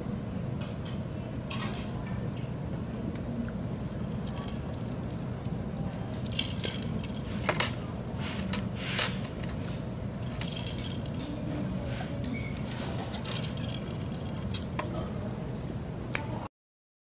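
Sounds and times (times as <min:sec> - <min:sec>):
low background hum of eating place: 0:00.0 - 0:16.5.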